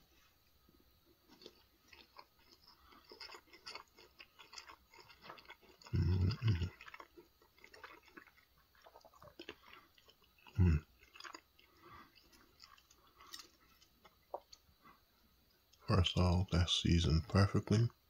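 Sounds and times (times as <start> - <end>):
person chewing wet food: 0.8 - 16.3.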